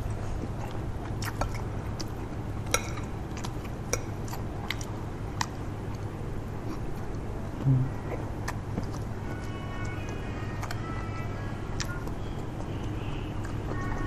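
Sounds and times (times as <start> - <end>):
soft chewing: 0.0 - 14.0
steady low hum: 0.0 - 14.0.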